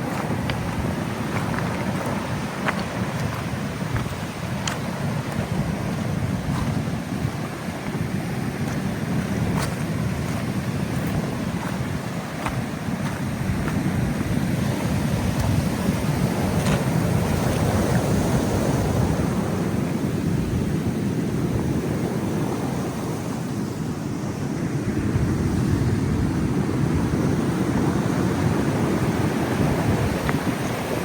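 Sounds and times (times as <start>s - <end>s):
wind buffeting microphone: 0.0s - 23.2s, 24.9s - 31.0s
ocean waves crashing on shore: 0.0s - 31.0s.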